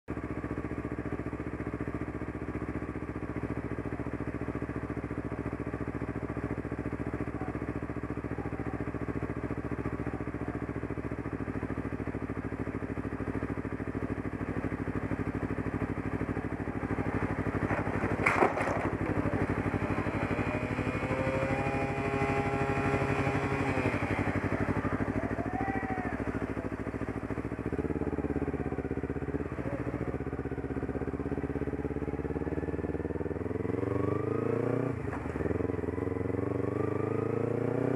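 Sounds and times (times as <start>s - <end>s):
motorcycle engine idling: 0.1s - 37.2s.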